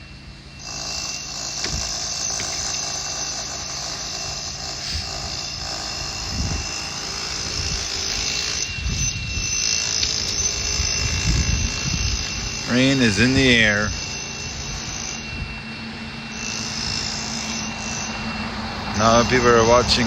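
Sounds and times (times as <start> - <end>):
thin steady whine: 0.0 - 20.0
power tool cutting concrete: 0.6 - 20.0.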